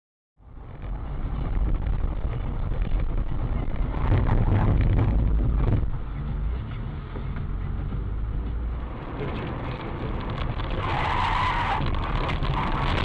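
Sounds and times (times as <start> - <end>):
car engine and road noise: 0.4 - 13.0.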